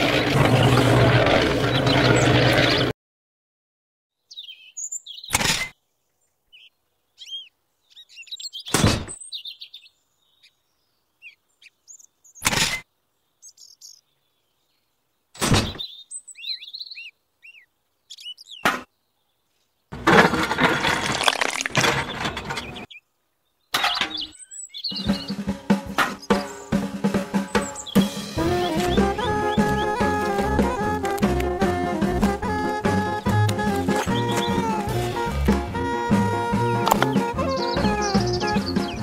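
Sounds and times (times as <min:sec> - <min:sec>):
birds chirping: 0:00.0 - 0:02.9, 0:04.2 - 0:20.0, 0:20.7 - 0:39.0.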